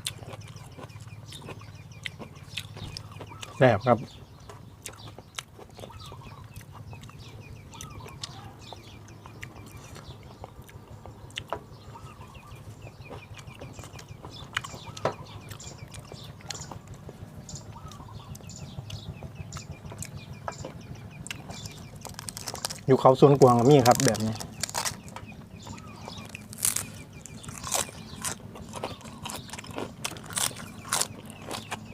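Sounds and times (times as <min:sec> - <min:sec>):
chickens clucking: 0:00.0 - 0:31.9
low steady hum: 0:00.0 - 0:31.9.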